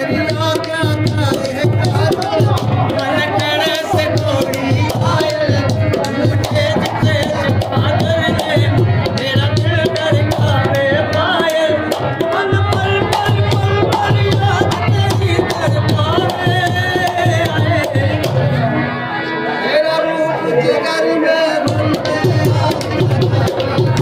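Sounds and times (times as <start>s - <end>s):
hand drum rhythm: 0.0s - 18.5s, 21.6s - 24.0s
harmonium melody: 0.0s - 24.0s.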